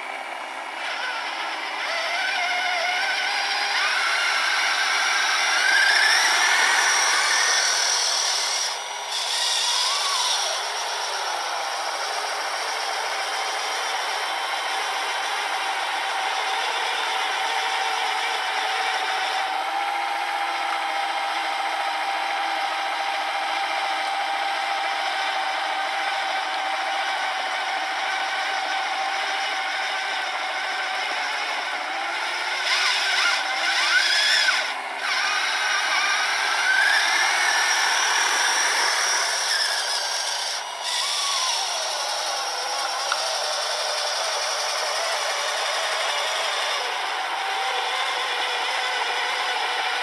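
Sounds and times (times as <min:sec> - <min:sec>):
electric motors whining: 0:00.0 - 0:50.0.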